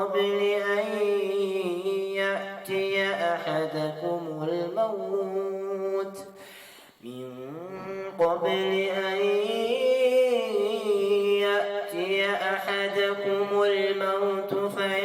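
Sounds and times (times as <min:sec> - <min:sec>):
man chanting recitation: 0:00.0 - 0:06.4, 0:07.0 - 0:15.0.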